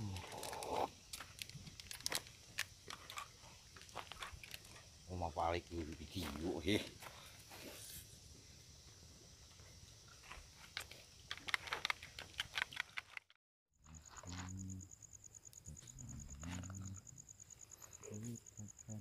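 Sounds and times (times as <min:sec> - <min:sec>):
cricket chirring: 0:00.0 - 0:19.0.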